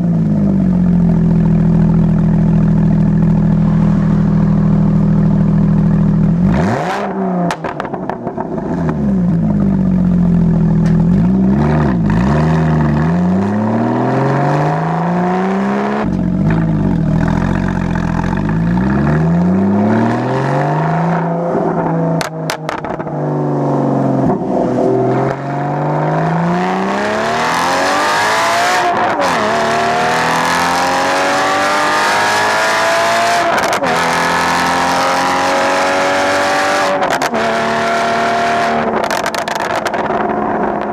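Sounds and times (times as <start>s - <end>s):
car engine accelerating through gears: 2.1s - 40.9s.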